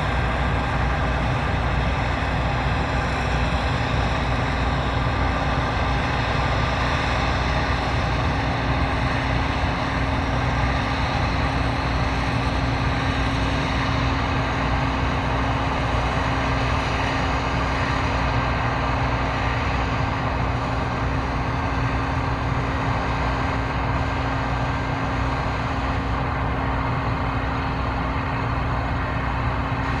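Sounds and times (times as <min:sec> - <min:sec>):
combine harvester drone: 0:00.0 - 0:30.0.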